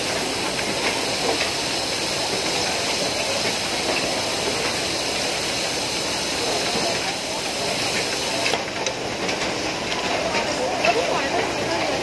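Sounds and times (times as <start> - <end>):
factory machinery hiss: 0.0 - 12.0.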